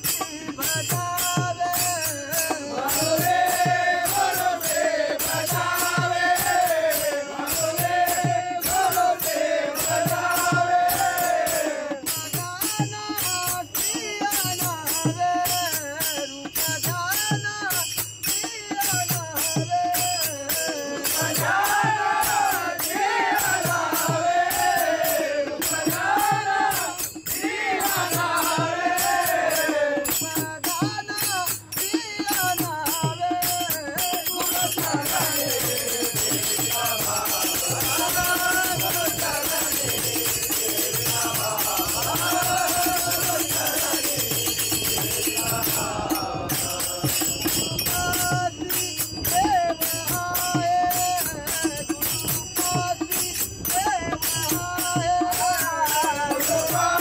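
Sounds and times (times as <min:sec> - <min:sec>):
group of men singing: 0:00.0 - 0:57.0
small percussion beat: 0:00.0 - 0:57.0.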